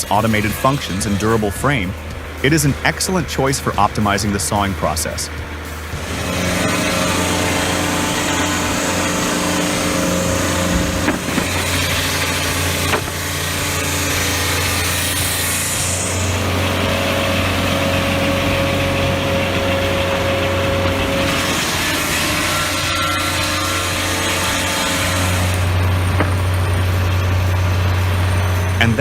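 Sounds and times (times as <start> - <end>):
petrol engine running: 0.0 - 29.0.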